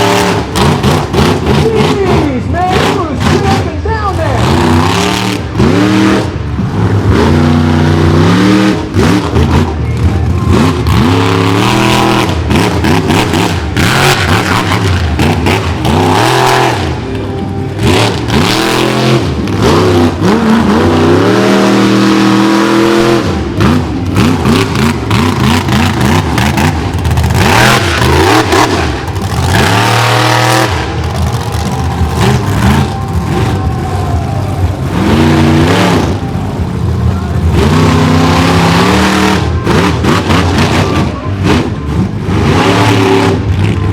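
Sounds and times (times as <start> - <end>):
engine crackles: 0.0 - 43.9
truck engine revving: 0.0 - 43.9.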